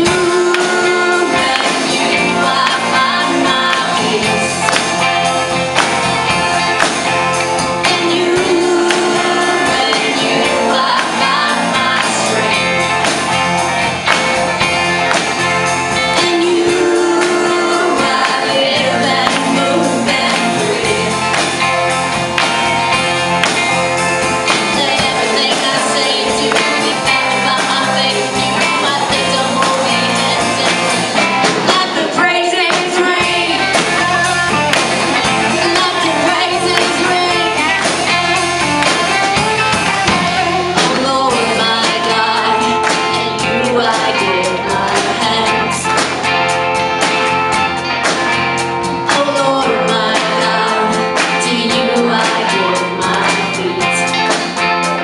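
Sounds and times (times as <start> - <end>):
band backing: 0.0 - 55.0
steady drum beat: 0.0 - 55.0
voices singing: 0.0 - 55.0.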